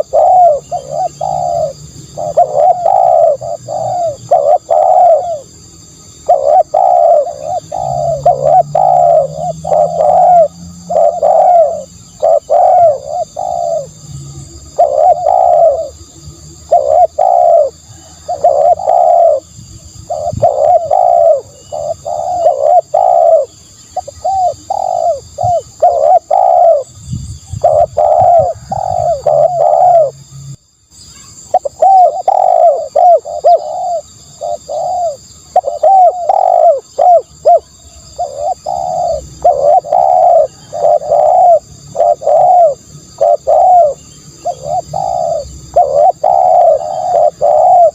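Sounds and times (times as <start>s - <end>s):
dove cooing: 0.0s - 30.4s, 31.3s - 47.9s.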